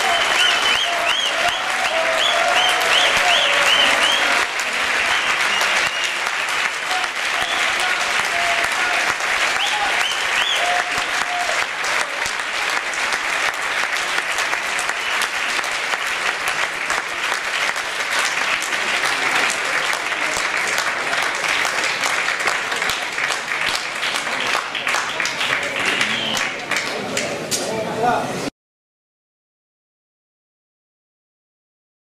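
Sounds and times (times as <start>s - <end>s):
audience applauding: 0.0s - 27.5s.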